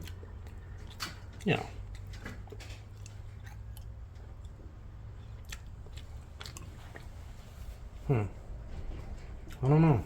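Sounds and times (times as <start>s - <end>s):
person chewing food: 0.0s - 10.0s
steady low hum: 0.0s - 10.0s.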